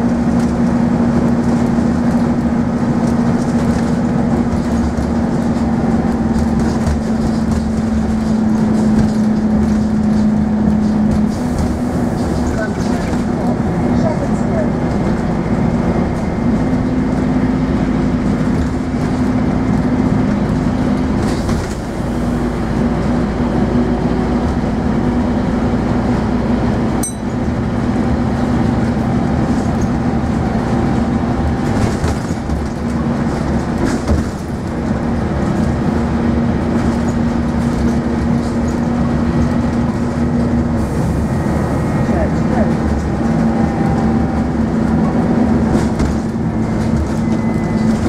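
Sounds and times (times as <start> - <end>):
diesel bus engine drone: 0.0 - 48.0
road and body noise: 0.0 - 48.0.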